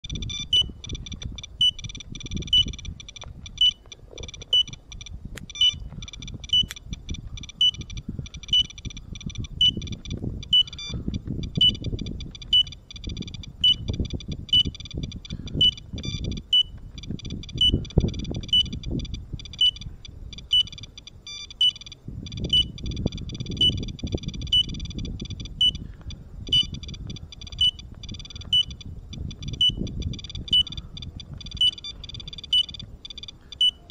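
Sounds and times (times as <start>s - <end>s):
geiger counters clicking: 0.0s - 33.9s
high electronic beep: 0.0s - 33.9s
low rumble: 0.1s - 33.9s.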